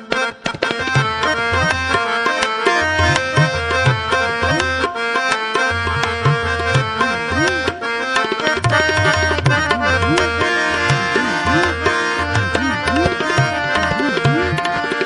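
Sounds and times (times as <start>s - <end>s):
harmonium held notes: 0.0s - 15.0s
tabla playing rhythm: 0.0s - 15.0s.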